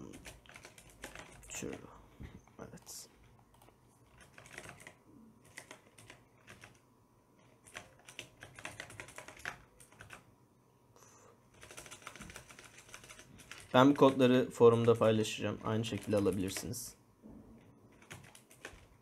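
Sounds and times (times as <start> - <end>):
faint keyboard typing: 0.0 - 6.8, 7.4 - 10.3, 11.5 - 17.0, 17.6 - 19.0.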